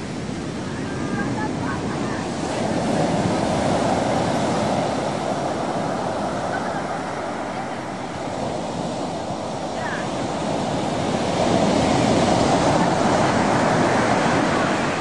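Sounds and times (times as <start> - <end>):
ocean surf breaking on shore: 0.0 - 15.0.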